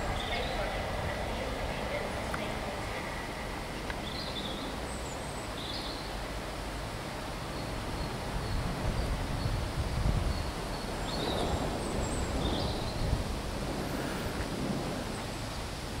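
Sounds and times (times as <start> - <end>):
wind noise on microphone: 0.0 - 4.9, 5.6 - 16.0
steam locomotive rumble: 0.0 - 16.0.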